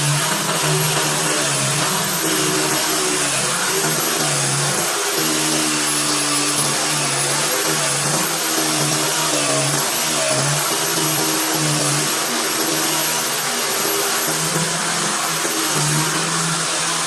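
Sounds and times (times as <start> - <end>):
power tool motor whirring: 0.0 - 17.0.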